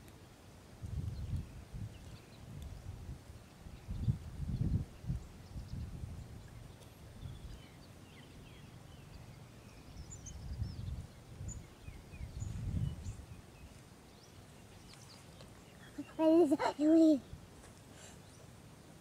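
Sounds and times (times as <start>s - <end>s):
birds chirping: 3.4s - 19.0s.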